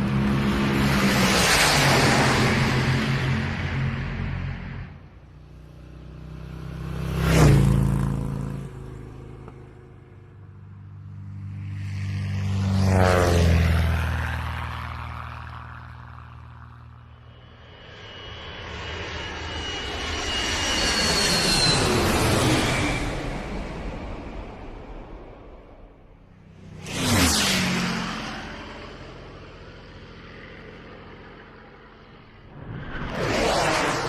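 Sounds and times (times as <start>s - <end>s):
aircraft engine flying past: 0.0s - 34.0s.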